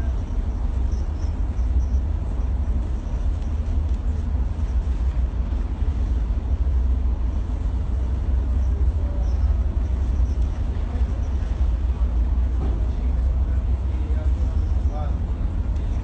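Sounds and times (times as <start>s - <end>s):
deep vehicle rumble: 0.0s - 16.0s.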